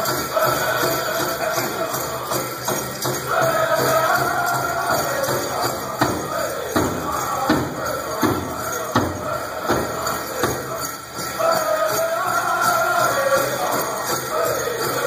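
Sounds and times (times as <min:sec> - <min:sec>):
drum struck in steady beat: 0:00.0 - 0:14.2
people singing: 0:00.0 - 0:15.0.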